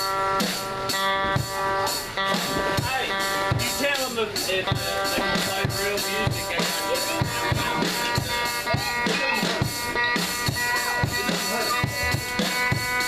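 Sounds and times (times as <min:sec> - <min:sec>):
bass guitar: 0:00.0 - 0:13.0
drum kit beat: 0:00.0 - 0:13.0.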